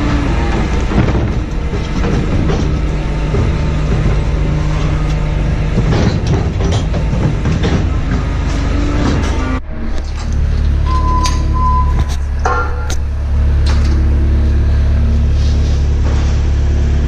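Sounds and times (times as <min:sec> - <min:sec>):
machine engine running: 0:00.0 - 0:17.0
rattling and clanking: 0:00.0 - 0:17.0.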